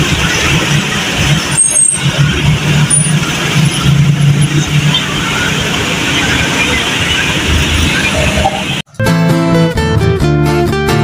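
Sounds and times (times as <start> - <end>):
traffic engines and tyres: 0.0 - 9.3
heavy vehicle engine humming: 0.0 - 10.1.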